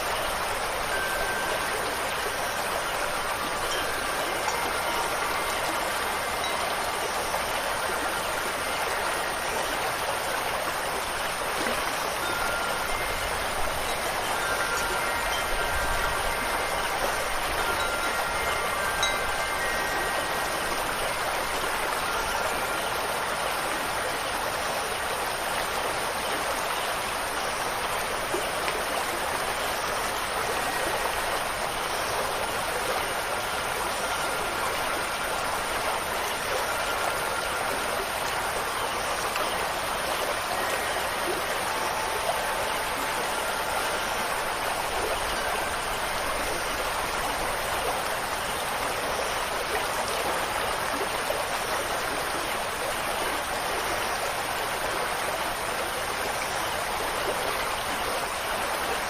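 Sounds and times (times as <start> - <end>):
faint wind chime tones: 0.0 - 59.0
stream water rushing: 0.0 - 59.0.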